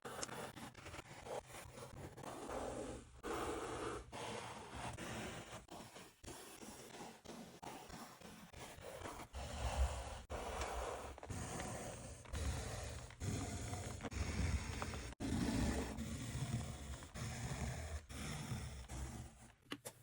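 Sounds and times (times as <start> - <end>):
rubbing and scraping leather: 0.1 - 19.5.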